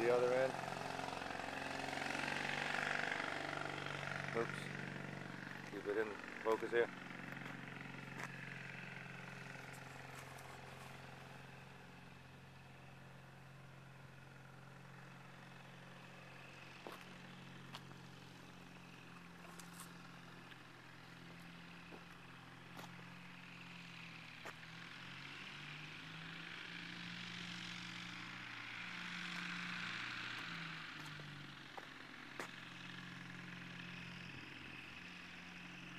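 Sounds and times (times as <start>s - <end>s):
light aircraft engine drone: 0.0s - 35.9s.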